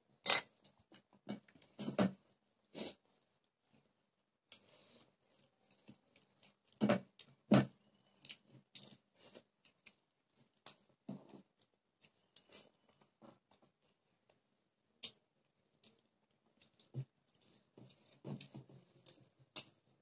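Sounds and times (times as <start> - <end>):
chewing and mouth clicks: 0.6 - 20.0.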